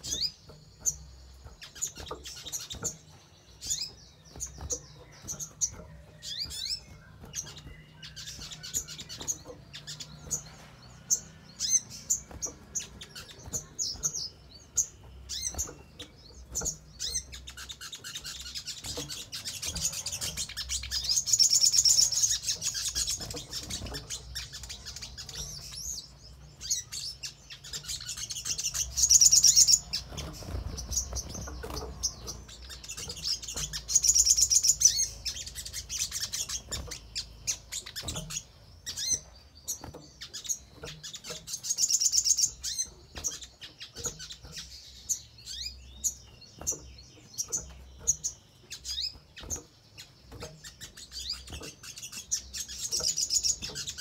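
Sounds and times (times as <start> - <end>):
bird chirps and ticks: 0.0 - 54.0
bird high-pitched rapid trills: 0.0 - 54.0.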